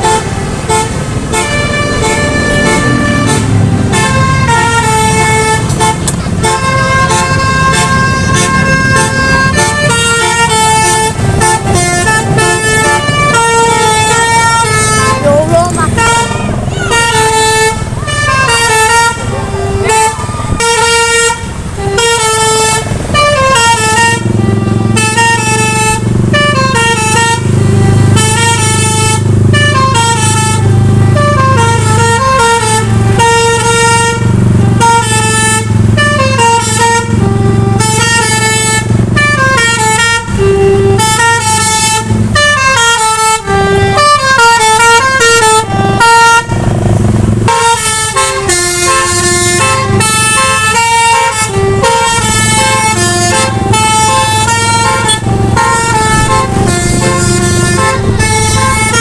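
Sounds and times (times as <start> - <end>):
musical air horn melody: 0.0 - 59.0.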